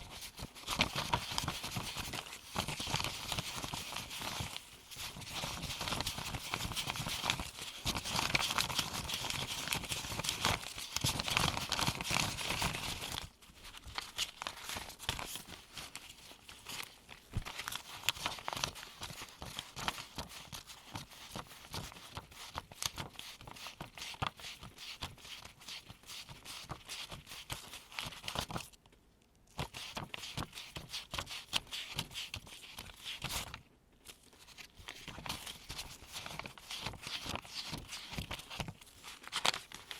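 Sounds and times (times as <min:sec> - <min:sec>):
paper bills rustling: 0:00.0 - 0:28.7, 0:29.6 - 0:39.9
paper bills snapping: 0:00.1 - 0:28.6, 0:29.6 - 0:39.9.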